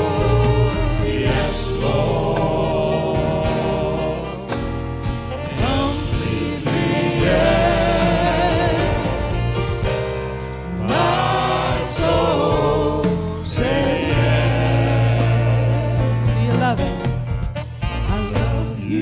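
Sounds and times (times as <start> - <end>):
choir singing gospel: 0.0 - 19.0
live band playing: 0.0 - 19.0.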